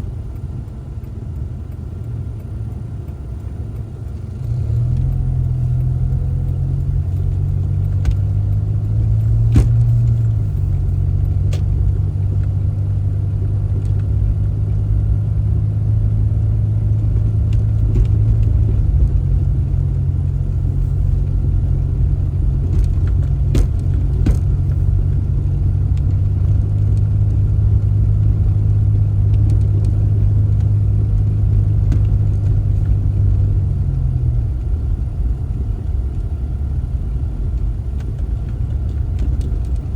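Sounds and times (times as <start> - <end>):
car driving drone: 0.0 - 39.9.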